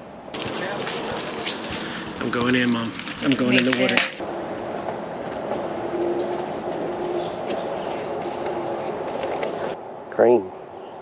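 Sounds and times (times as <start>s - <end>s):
broad steady rushing noise: 0.0s - 11.0s
crickets and insects chirring: 0.0s - 11.0s.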